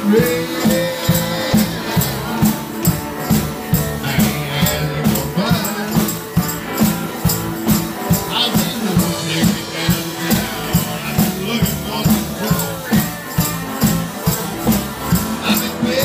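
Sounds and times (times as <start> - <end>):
drum kit beat: 0.0 - 16.0
electric guitars playing: 0.0 - 16.0.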